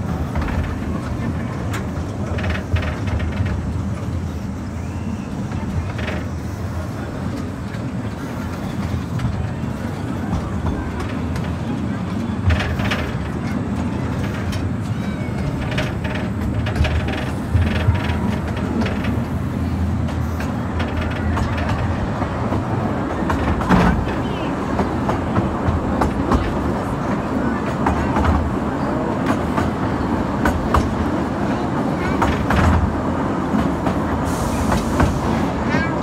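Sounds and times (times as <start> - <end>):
small train cars rumbling: 0.0 - 36.0
wheels clacking on rails: 0.0 - 36.0.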